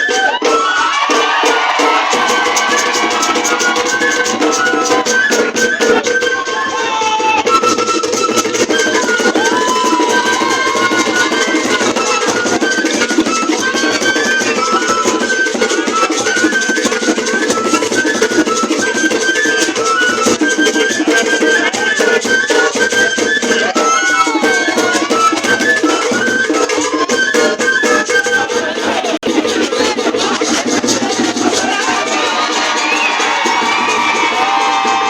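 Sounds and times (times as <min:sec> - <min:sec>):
percussion beat: 0:00.0 - 0:35.0.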